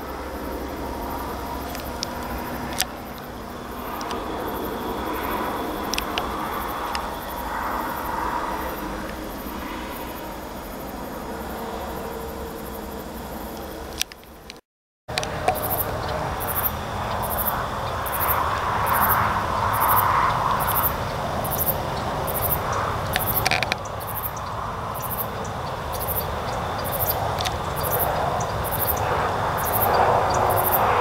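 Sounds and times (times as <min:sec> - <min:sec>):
insect chirping: 0:00.0 - 0:31.0
steady low rumble: 0:00.0 - 0:31.0.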